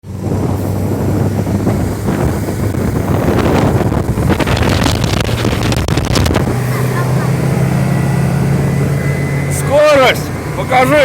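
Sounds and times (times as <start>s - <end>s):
motorboat engine droning: 0.0s - 11.0s
rushing water: 0.0s - 11.0s
wind buffeting microphone: 0.0s - 11.0s.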